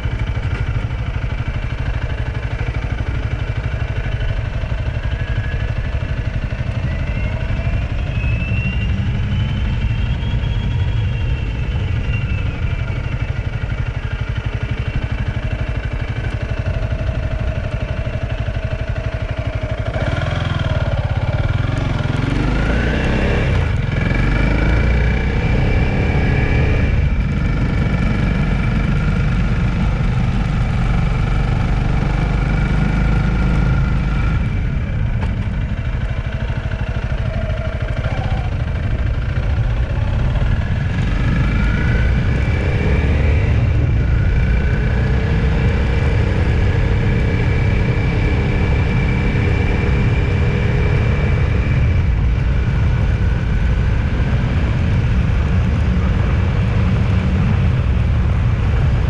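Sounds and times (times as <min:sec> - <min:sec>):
road noise: 0:00.0 - 0:59.0
vehicle engine running: 0:00.0 - 0:59.0.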